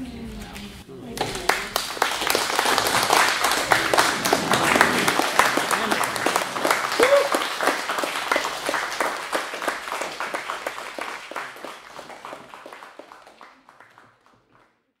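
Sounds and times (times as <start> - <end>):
audience applauding: 1.2 - 14.9.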